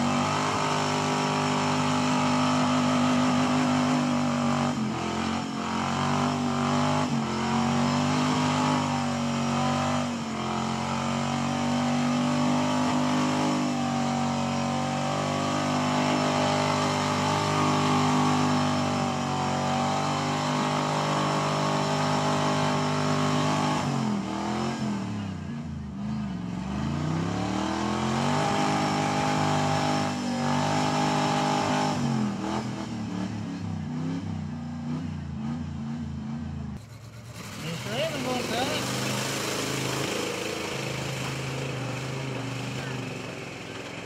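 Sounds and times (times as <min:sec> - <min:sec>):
pickup engine revving high: 0:00.0 - 0:44.0.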